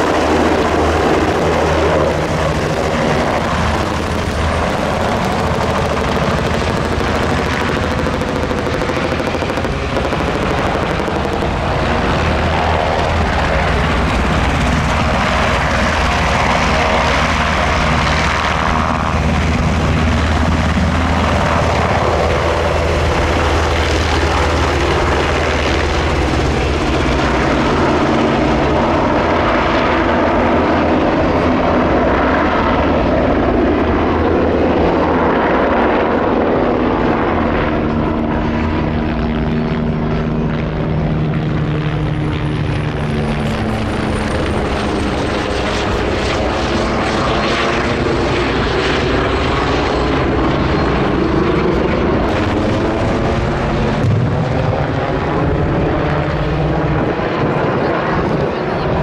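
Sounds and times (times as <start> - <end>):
helicopter rotor and engines droning: 0.0 - 59.0
high turbine whine: 0.0 - 59.0.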